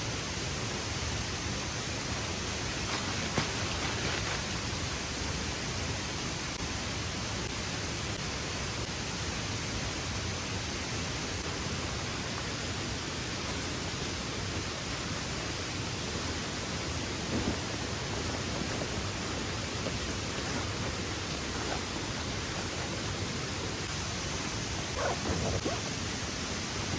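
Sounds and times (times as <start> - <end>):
rushing falling water: 0.5 - 26.9.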